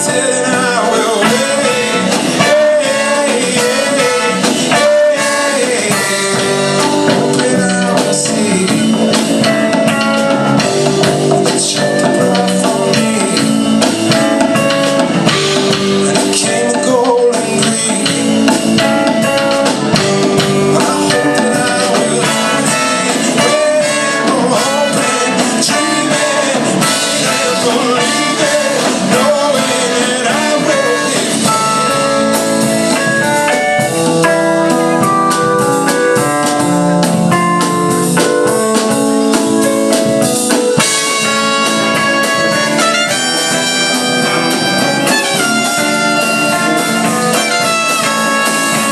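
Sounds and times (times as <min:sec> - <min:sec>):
drum kit: 0:00.0 - 0:48.9
live rock band playing: 0:00.0 - 0:48.9.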